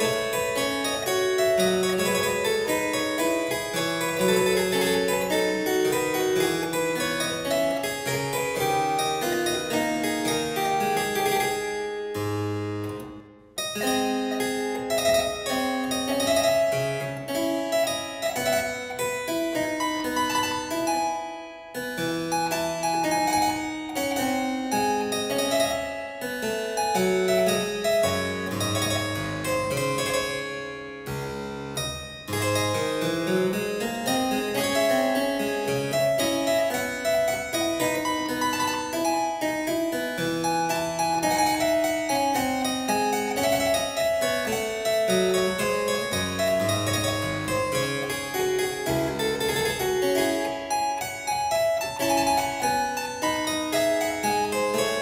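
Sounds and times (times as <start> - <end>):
solo harpsichord piece: 0.0 - 55.0.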